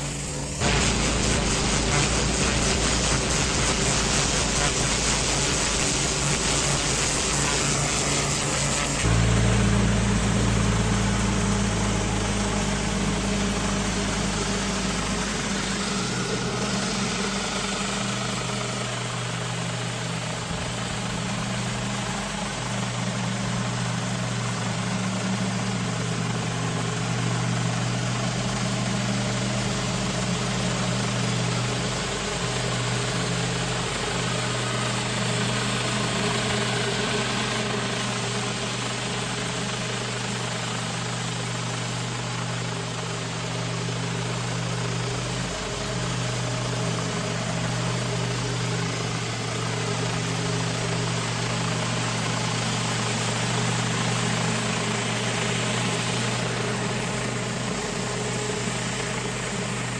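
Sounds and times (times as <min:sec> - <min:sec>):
pressure washer engine running: 0:00.0 - 0:59.9
steady hiss: 0:00.0 - 0:59.9.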